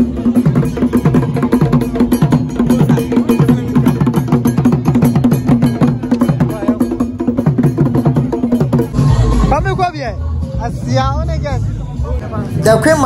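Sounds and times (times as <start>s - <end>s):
drums in fast rhythm: 0.0s - 11.8s
crowd voices: 0.0s - 13.0s.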